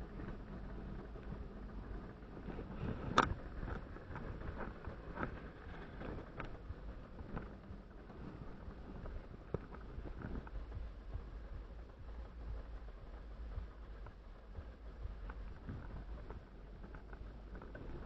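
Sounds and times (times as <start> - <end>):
wind noise: 0.0 - 18.0.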